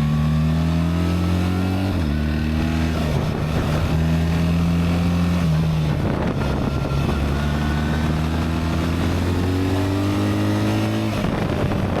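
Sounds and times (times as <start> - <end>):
gravel road noise: 0.0 - 12.0
motorcycle engine revving: 0.0 - 12.0
wind noise: 1.6 - 12.0.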